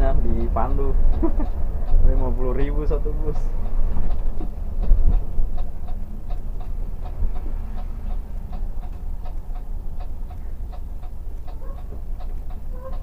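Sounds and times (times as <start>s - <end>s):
bus engine and tyres rumbling: 0.0s - 13.0s
turn signal ticking: 0.0s - 13.0s.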